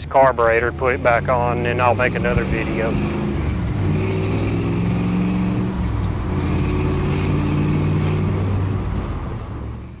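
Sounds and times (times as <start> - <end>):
truck engine running from inside cab: 0.0 - 10.0.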